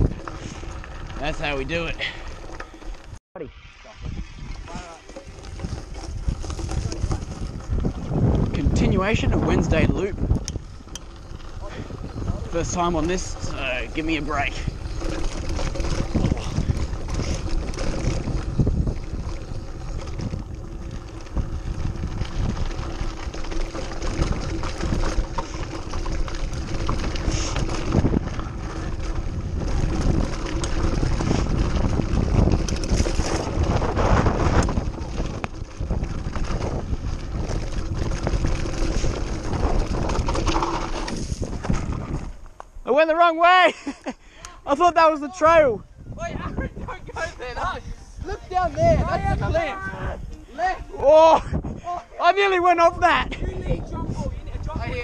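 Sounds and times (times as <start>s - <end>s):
wind on microphone: 0.0s - 1.4s, 3.1s - 42.6s, 45.4s - 55.0s
bike rattling over bumps: 0.0s - 3.2s, 4.0s - 42.9s, 45.4s - 55.0s
tyres rolling over loose dirt: 0.0s - 55.0s.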